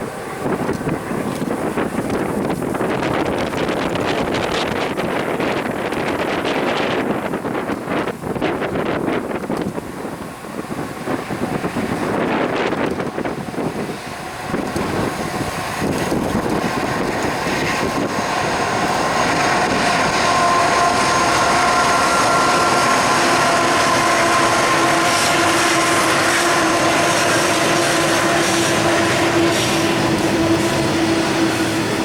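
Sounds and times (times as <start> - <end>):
steady multi-tone whine: 0.0 - 32.0
train rumbling on rails: 0.0 - 32.0.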